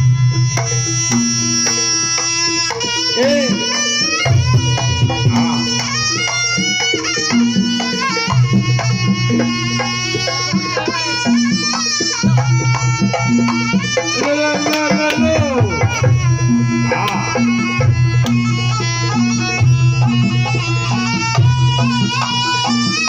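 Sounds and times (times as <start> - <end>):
drums keeping a steady pulse: 0.0 - 23.0
pitched percussion: 0.0 - 23.0
reedy melodic line: 0.0 - 23.0.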